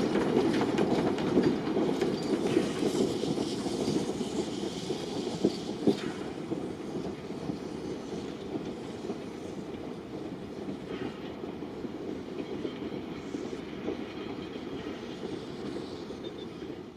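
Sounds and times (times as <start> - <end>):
wheels clicking over rail joints: 0.0 - 16.3
train wheels rumbling on track: 0.0 - 16.9.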